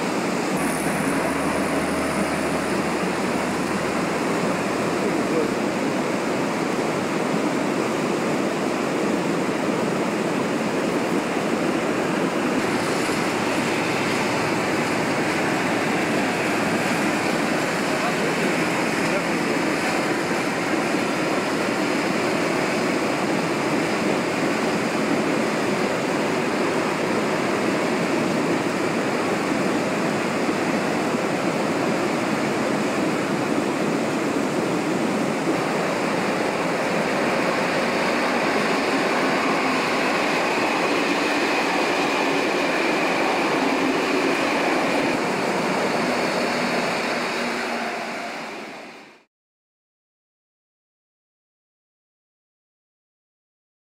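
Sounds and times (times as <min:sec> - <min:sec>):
railway machine engine: 0:00.0 - 0:49.3.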